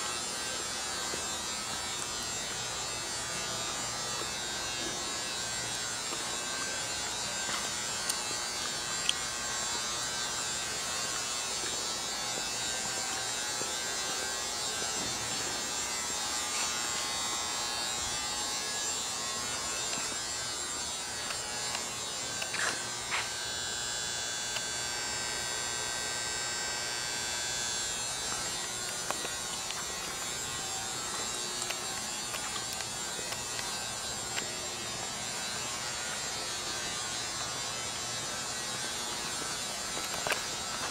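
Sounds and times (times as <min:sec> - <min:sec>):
electrical buzzing hum: 0:00.0 - 0:40.9
high-pitched whine: 0:00.0 - 0:40.9.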